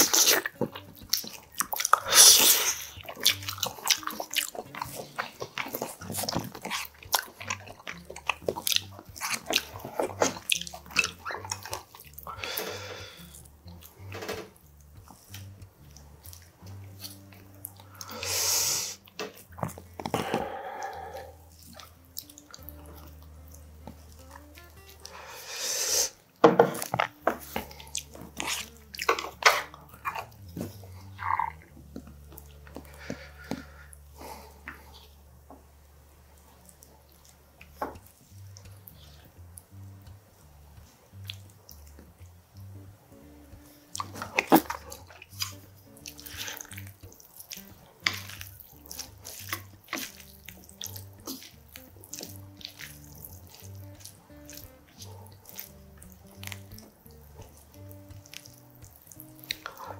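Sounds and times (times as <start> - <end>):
chopsticks mixing noodles squelching: 0.0 - 35.4, 36.2 - 59.9
person chewing crunchy food: 0.0 - 35.4, 36.2 - 59.9.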